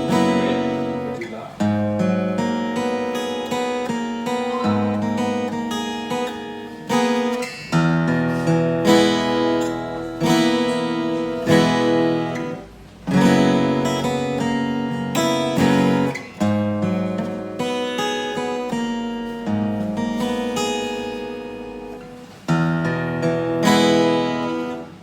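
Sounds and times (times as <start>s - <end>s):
acoustic guitar chords strummed: 0.0s - 25.0s.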